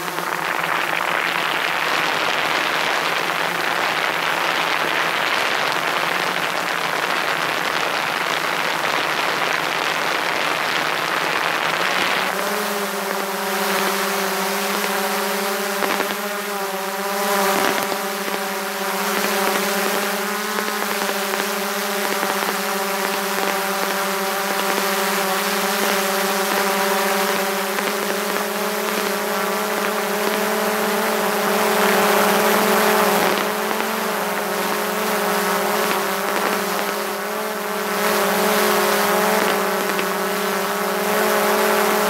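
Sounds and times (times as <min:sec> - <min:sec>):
drone propellers buzzing: 0:00.0 - 0:07.4, 0:08.0 - 0:42.0.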